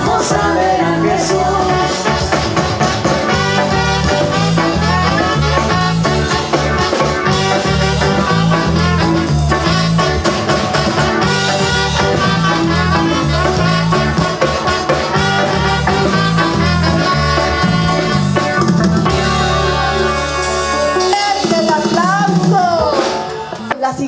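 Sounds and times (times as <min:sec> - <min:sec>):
saxophones and trumpet melody: 0:00.0 - 0:23.7
bass line: 0:00.0 - 0:24.0
latin dance band playing: 0:00.0 - 0:24.0.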